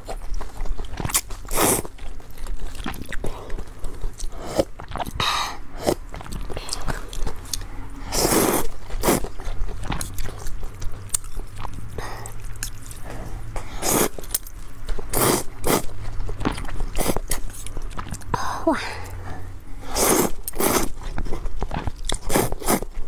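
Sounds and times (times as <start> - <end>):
wet chewing: 0.0 - 23.0
noodles slurped: 0.7 - 18.3, 19.8 - 23.0.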